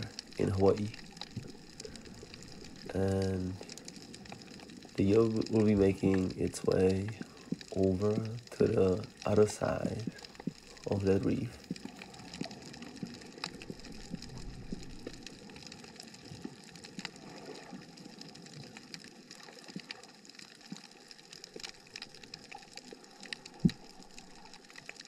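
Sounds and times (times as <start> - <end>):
underwater crackling clicks: 0.0 - 25.0.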